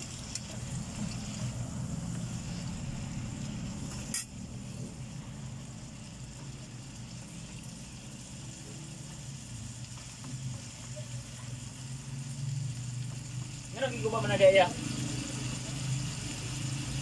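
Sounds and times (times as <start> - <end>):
food sizzling in a frying pan: 0.0 - 17.0
low mechanical hum: 0.0 - 17.0.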